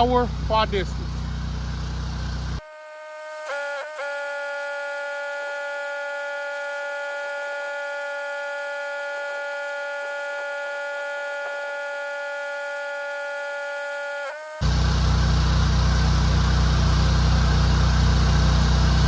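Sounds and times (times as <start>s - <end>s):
pressure washer whistling whine: 0.0s - 19.0s.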